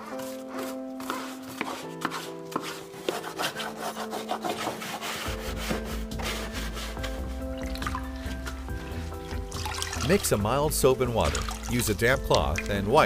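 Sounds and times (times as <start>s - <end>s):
brush scrubbing plastic: 0.0s - 10.3s, 10.9s - 13.0s
soft background music: 0.0s - 13.0s.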